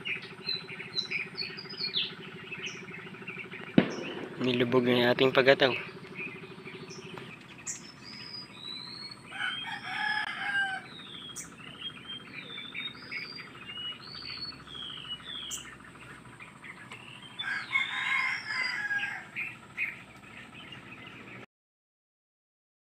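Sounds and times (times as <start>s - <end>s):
high bird chirps: 0.0s - 21.4s
long loud bird calls: 0.0s - 21.5s.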